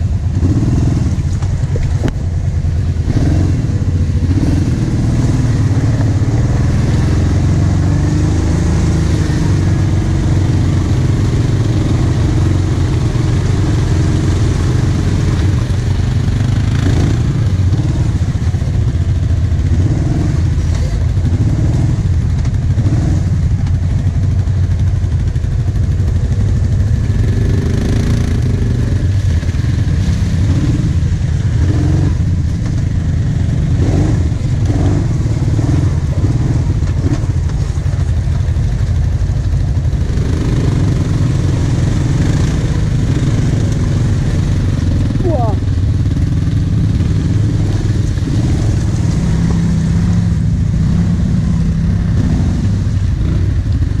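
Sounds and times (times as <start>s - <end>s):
atv engine at low revs: 0.0s - 54.0s.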